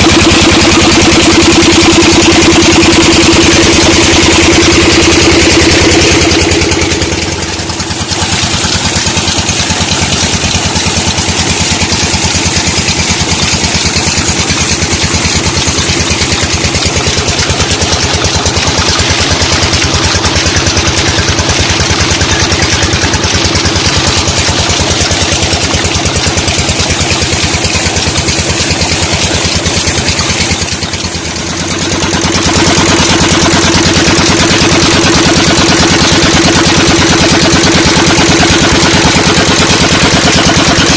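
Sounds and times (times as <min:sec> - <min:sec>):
diesel engine knocking steadily: 0:00.0 - 0:40.9.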